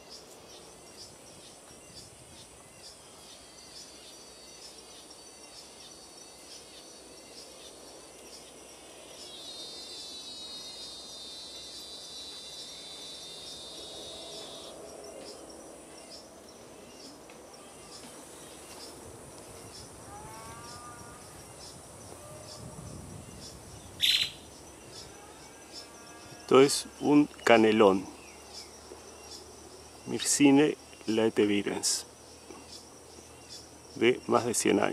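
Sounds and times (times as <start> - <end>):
insects buzzing and chirping: 0.0 - 34.9
loud insect trill: 0.0 - 34.9.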